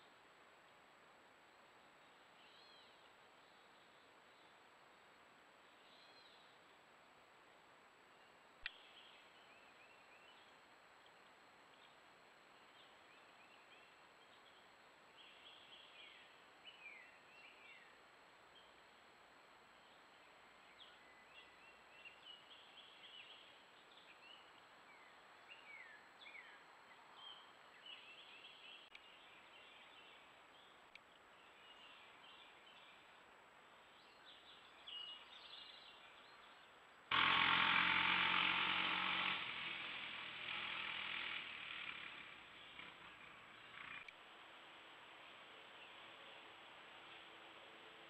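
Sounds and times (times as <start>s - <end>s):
birds chirping faintly: 0.0s - 37.1s, 38.6s - 48.0s.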